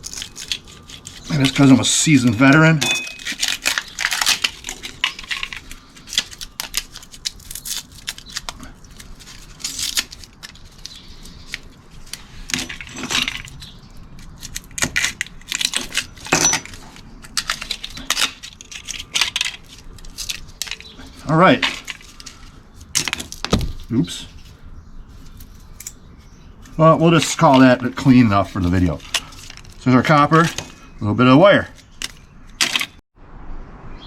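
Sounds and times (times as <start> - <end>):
metallic clinks and scrapes: 0.0 - 31.0.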